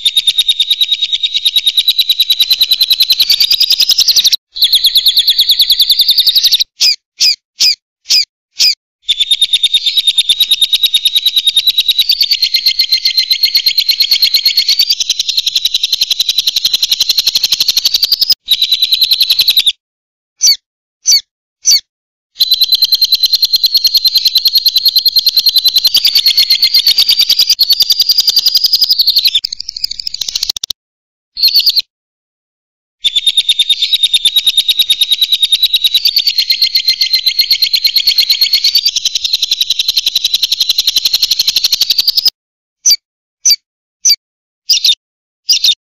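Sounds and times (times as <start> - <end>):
lovebird chattering trill: 0.0 - 19.8, 20.4 - 21.8, 22.4 - 30.7, 33.1 - 45.8
short bird chirps: 0.0 - 19.8, 20.4 - 30.8, 31.4 - 31.9, 33.0 - 45.8.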